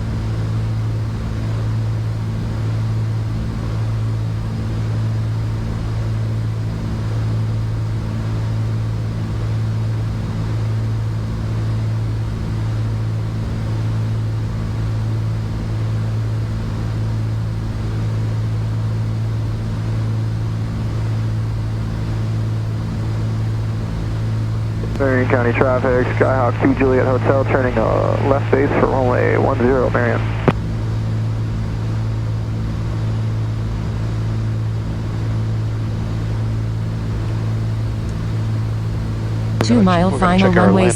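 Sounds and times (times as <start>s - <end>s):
propeller plane engines droning: 0.0s - 40.9s.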